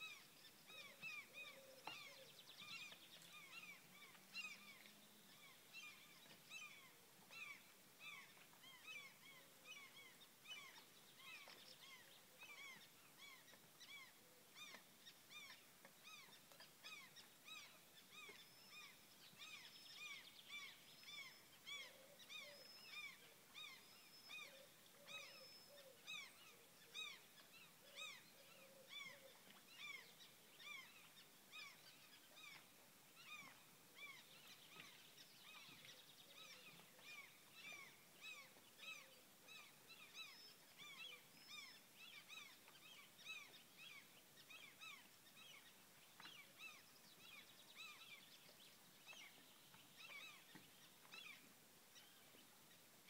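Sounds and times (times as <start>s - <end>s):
faint bird calls: 0.0s - 52.8s
faint steady hiss: 0.0s - 53.0s.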